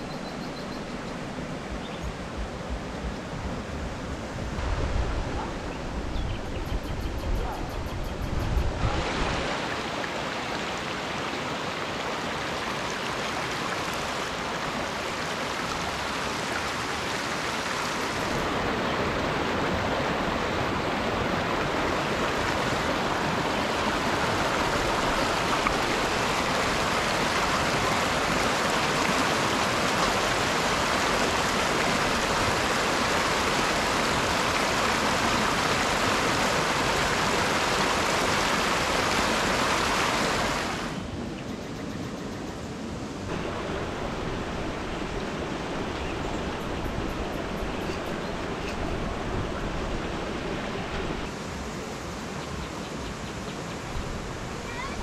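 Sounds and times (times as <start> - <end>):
flowing water rushing: 0.0 - 6.6, 8.4 - 41.4, 42.7 - 55.0.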